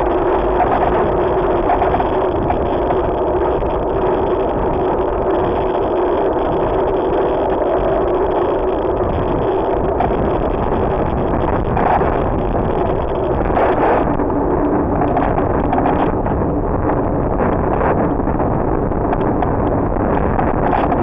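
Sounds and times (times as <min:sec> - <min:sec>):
wind and rolling noise: 0:00.0 - 0:21.0.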